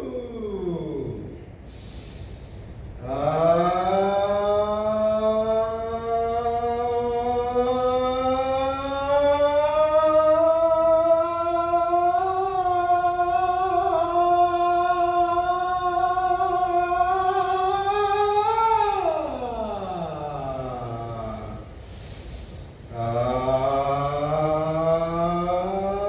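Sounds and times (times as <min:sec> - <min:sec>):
person singing a long vowel: 0:00.0 - 0:01.5, 0:03.0 - 0:21.9, 0:22.9 - 0:26.0.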